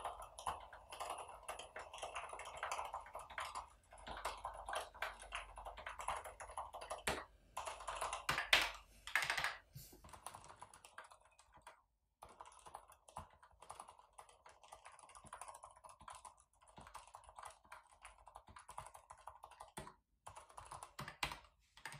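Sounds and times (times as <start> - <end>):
typing on mechanical keyboard: 0.0 - 21.9.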